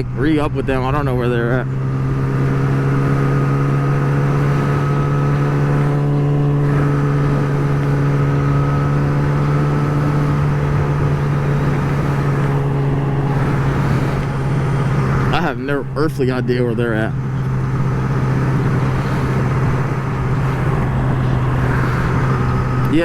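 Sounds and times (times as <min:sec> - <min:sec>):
motorcycle engine cruising: 0:00.0 - 0:23.0
wind noise: 0:01.7 - 0:23.0.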